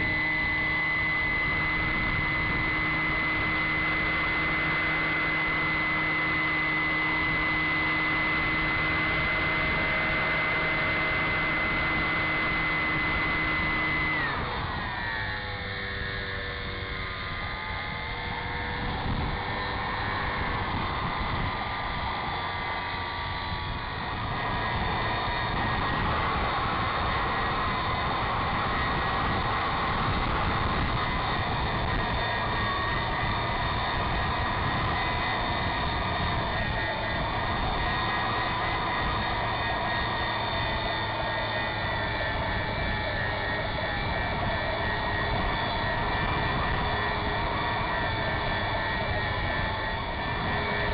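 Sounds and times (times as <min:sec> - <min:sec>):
airflow noise: 0:00.0 - 0:50.9
model airplane motor and propeller: 0:00.0 - 0:50.9.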